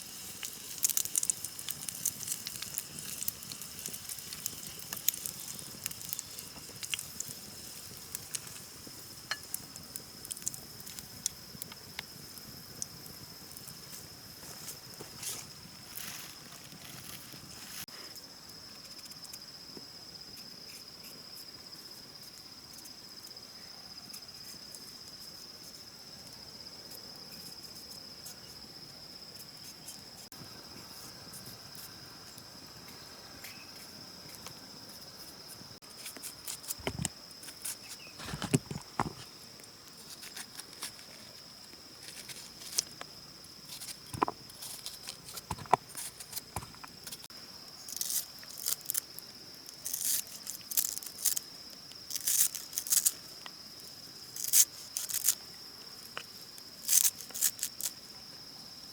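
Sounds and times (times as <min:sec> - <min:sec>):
insect chorus: 0:00.0 - 0:58.9.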